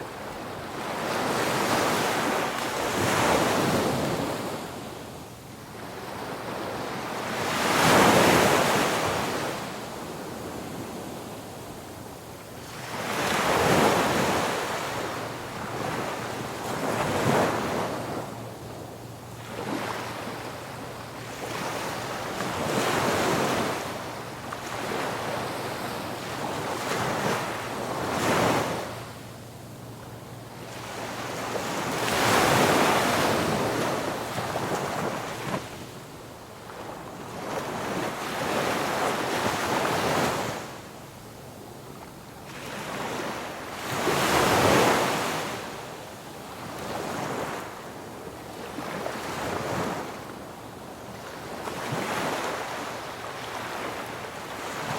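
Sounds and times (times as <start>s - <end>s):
ocean waves breaking on beach: 5.6s - 11.8s, 12.6s - 18.7s, 19.3s - 29.2s, 30.4s - 40.9s, 42.4s - 54.9s.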